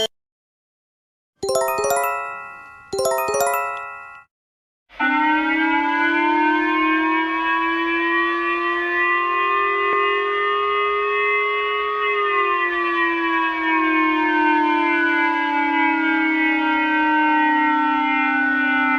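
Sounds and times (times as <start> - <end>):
emergency alert alarm tone: 1.4 - 4.3, 5.0 - 18.9.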